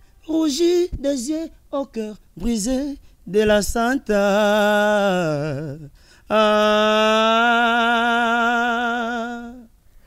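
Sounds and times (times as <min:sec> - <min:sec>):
man singing unaccompanied: 0:00.2 - 0:09.8.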